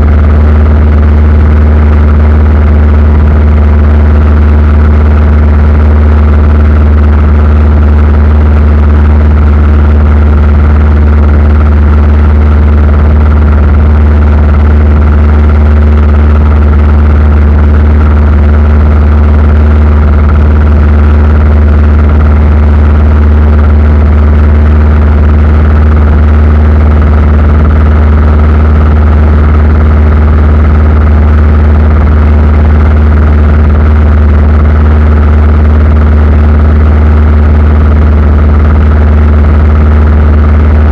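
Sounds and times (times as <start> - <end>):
aircraft engine drone: 0.0 - 35.0.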